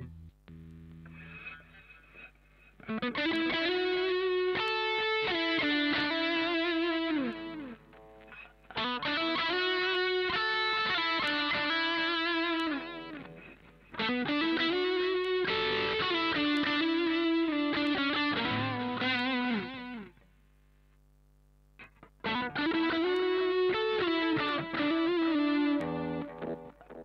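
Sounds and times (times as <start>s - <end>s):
distorted electric guitar lead: 0.0s - 20.2s, 21.8s - 27.0s.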